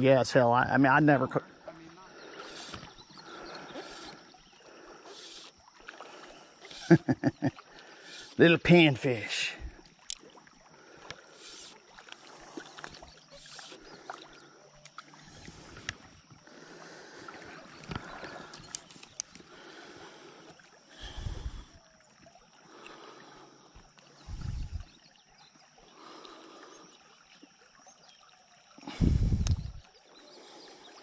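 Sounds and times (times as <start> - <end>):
river trickling: 0.0 - 31.0.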